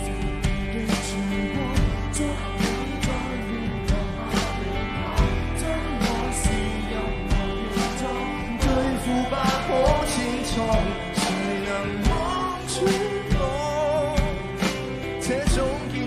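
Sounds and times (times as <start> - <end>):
live pop-rock band: 0.0 - 16.0
person singing chorus: 1.2 - 14.4.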